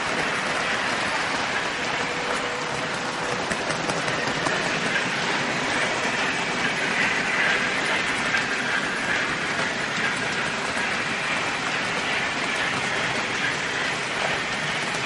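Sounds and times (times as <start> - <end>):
model train wheels rolling on rails: 0.0 - 15.0.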